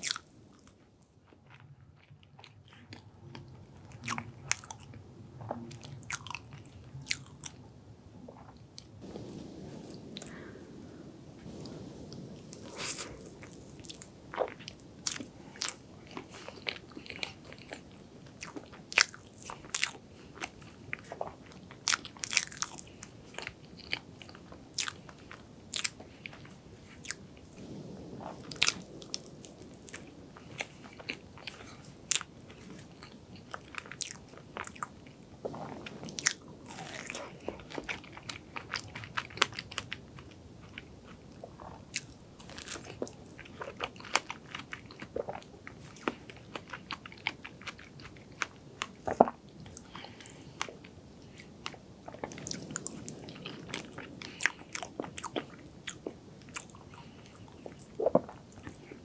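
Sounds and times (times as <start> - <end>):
chewing and mouth smacks: 0.0 - 7.6, 12.5 - 59.0.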